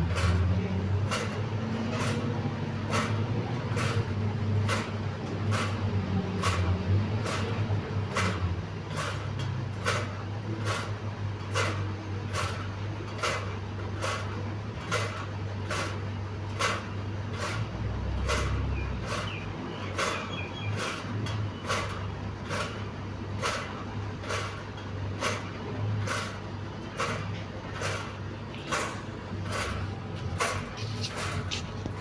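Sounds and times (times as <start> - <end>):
fan turbine humming: 0.0 - 32.0.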